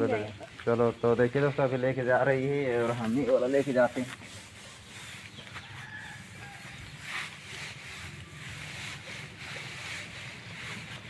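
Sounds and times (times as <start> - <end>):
dry straw rustling: 0.0 - 11.0.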